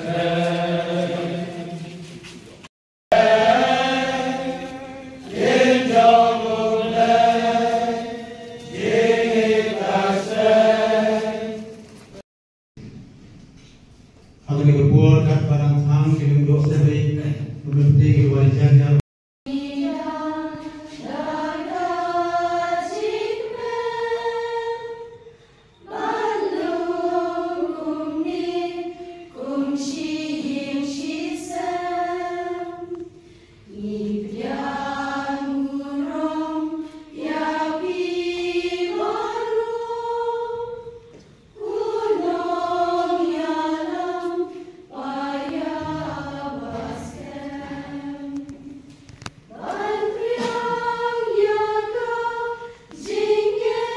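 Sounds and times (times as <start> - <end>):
choir singing: 0.0 - 2.3, 3.1 - 12.2, 19.5 - 48.9, 49.5 - 53.9.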